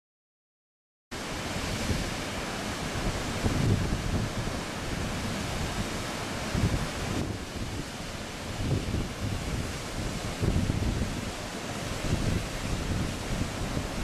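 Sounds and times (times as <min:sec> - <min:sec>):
waterfall rushing: 0:01.2 - 0:14.0
wind buffeting microphone: 0:01.3 - 0:14.0.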